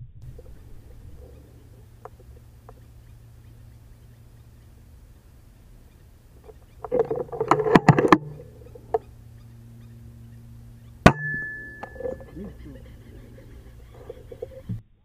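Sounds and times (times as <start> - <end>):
high ringing tone: 0.3 - 14.7
duck quacking: 0.4 - 14.8.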